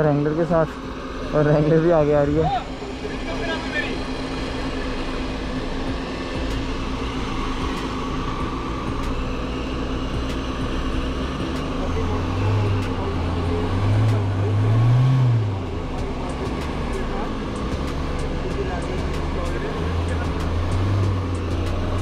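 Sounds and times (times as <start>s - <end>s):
low engine drone: 0.0s - 22.0s
engine revving hard: 0.6s - 22.0s.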